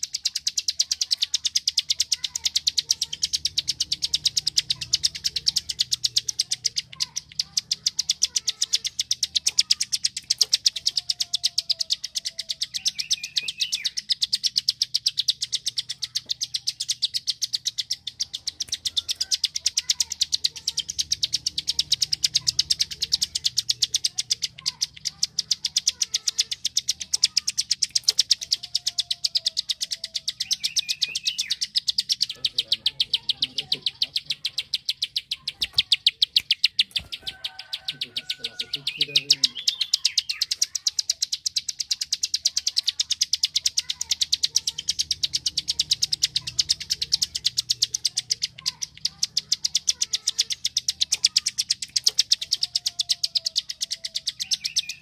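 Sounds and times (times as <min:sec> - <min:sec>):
bird rapid clicking call: 0:00.0 - 0:55.0
faint bird chirps: 0:00.0 - 0:55.0.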